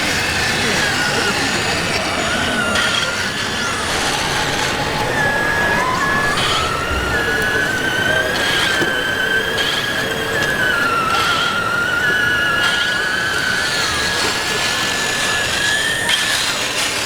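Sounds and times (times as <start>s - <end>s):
electric motor whining: 0.0s - 17.0s
higher motor whine: 0.0s - 17.0s.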